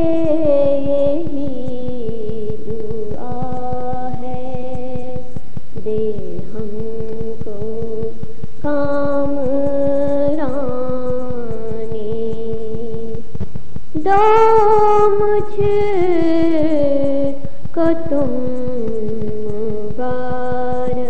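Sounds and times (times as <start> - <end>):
voices humming long notes: 0.0 - 21.0.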